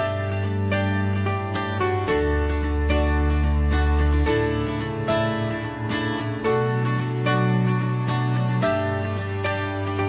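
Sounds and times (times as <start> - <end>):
plucked string notes: 0.0 - 10.0.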